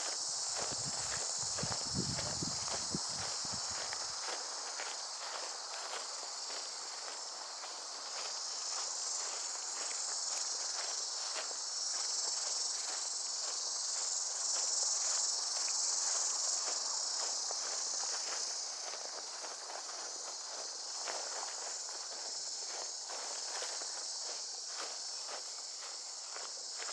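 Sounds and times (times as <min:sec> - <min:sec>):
footsteps walking: 0:00.0 - 0:26.9
insects chorus: 0:00.0 - 0:26.9.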